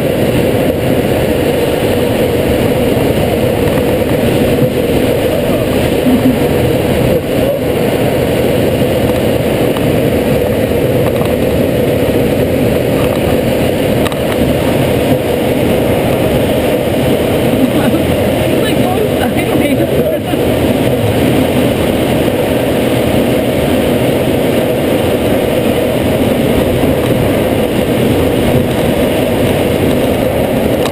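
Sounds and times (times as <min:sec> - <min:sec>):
air rushing in cockpit: 0:00.0 - 0:30.9
tow plane engine drone: 0:00.0 - 0:30.9.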